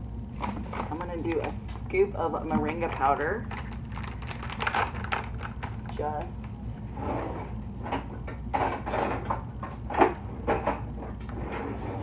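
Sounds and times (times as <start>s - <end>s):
steady low hum: 0.0s - 12.0s
cupboard and containers clattering: 0.4s - 12.0s.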